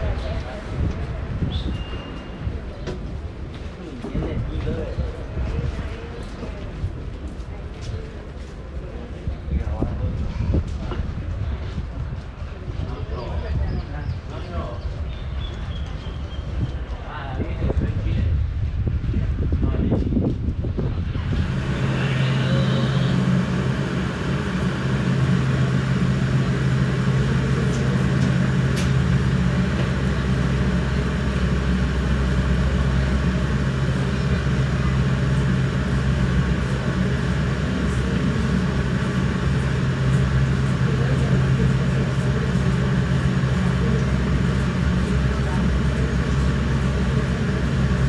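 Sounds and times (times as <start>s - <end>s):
diesel train engine hum: 0.0s - 17.0s, 18.2s - 48.0s
train rumble: 0.0s - 48.0s.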